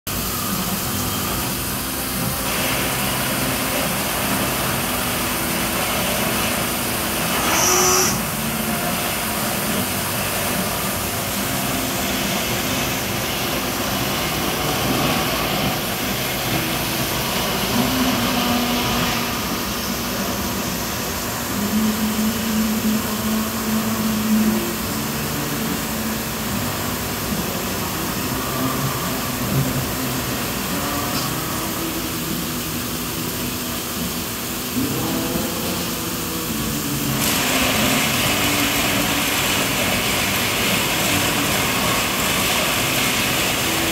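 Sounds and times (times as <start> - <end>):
coolant spraying hiss: 0.1 - 43.9
lathe whirring: 0.1 - 43.9
short humming tones: 0.1 - 43.9.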